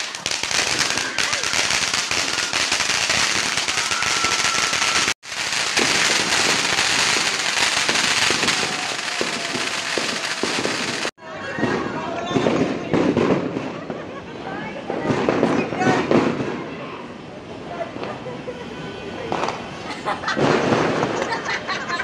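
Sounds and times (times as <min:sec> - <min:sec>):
firecrackers crackling: 0:00.0 - 0:16.8, 0:19.2 - 0:22.0.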